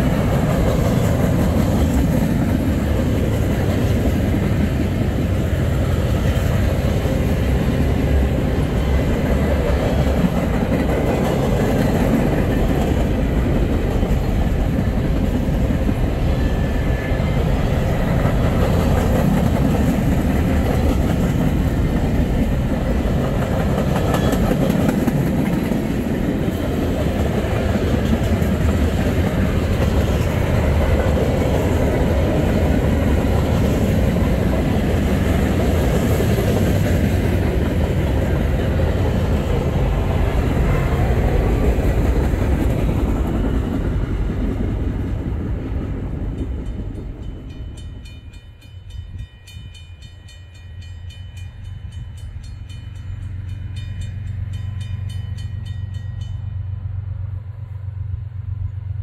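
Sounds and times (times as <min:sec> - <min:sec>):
freight train wheels clattering: 0:00.0 - 0:50.2.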